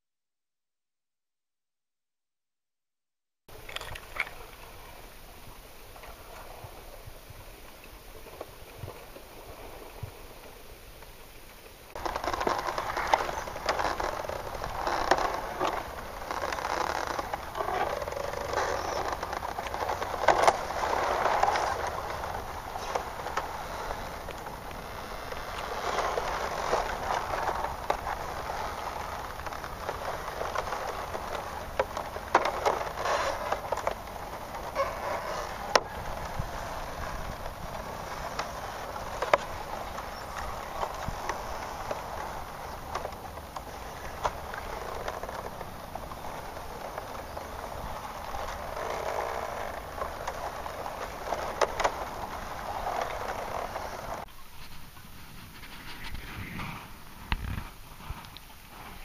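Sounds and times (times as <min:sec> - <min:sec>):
muffled water crackling and sloshing: 0:03.5 - 0:59.0.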